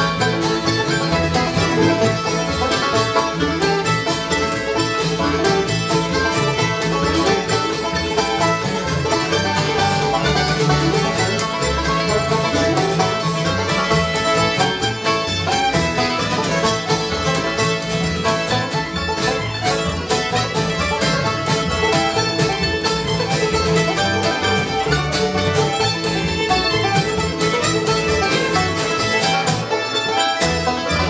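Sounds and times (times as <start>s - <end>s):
acoustic guitar: 0.0s - 31.0s
banjo: 0.0s - 31.0s
fiddle: 0.0s - 31.0s
mandolin: 0.0s - 31.0s
upright bass: 0.0s - 31.0s.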